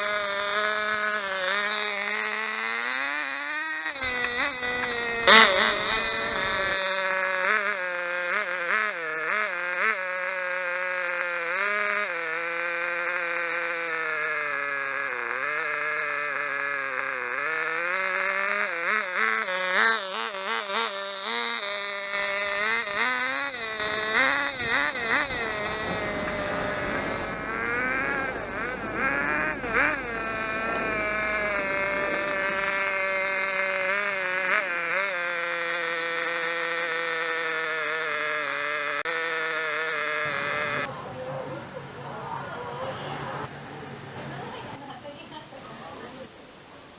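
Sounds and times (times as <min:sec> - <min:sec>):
small model engine buzzing: 0:00.0 - 0:43.5.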